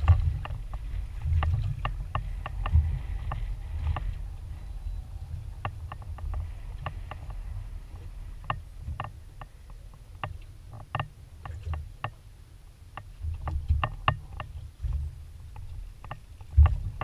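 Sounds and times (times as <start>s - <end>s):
sharp clicks and knocks: 0.0s - 4.2s, 5.6s - 12.2s, 13.0s - 17.0s
water lapping against boat hull: 0.0s - 17.0s.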